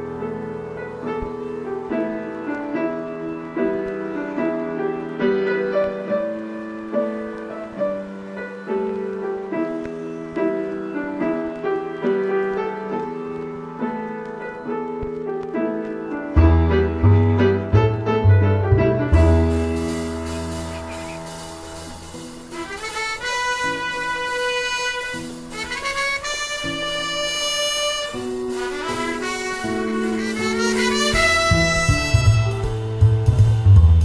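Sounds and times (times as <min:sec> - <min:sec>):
slow instrumental music: 0:00.0 - 0:34.0.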